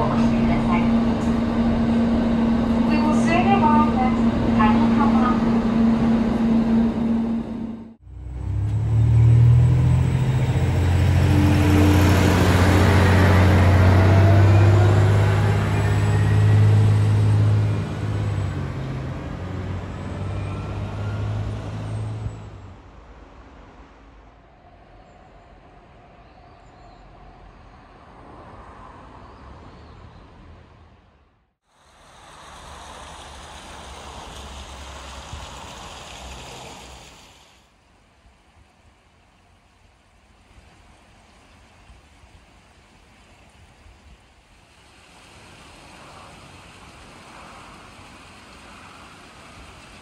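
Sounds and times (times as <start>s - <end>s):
train passing drone: 0.0s - 29.6s, 31.7s - 37.7s, 44.6s - 50.0s.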